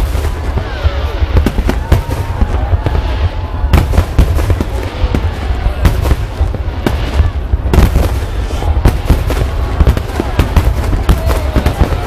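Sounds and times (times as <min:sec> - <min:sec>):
firework bangs and crackles: 0:00.0 - 0:12.0.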